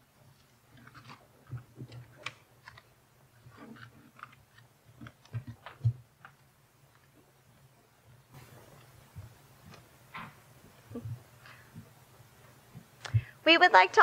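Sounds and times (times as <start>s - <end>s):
papers rustling: 0.2s - 13.3s.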